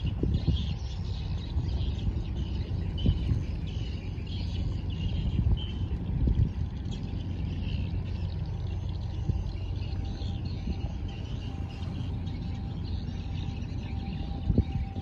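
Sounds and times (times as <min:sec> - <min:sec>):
churning wake: 0:00.0 - 0:15.0
faint chirping: 0:00.0 - 0:15.0
ship engine low rumble: 0:00.0 - 0:15.0.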